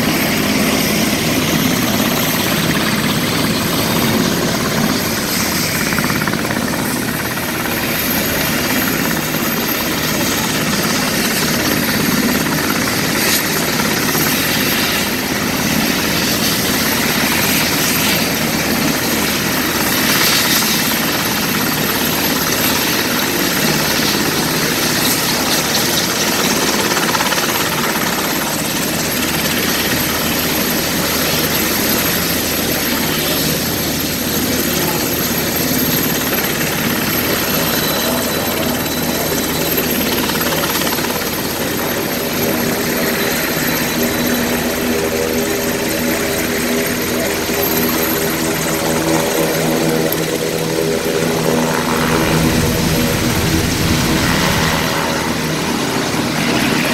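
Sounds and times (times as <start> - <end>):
helicopter turbine engines running: 0.0 - 56.9.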